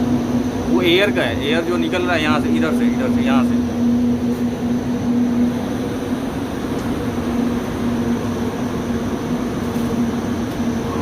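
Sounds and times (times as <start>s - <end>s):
fan running: 0.0s - 11.0s.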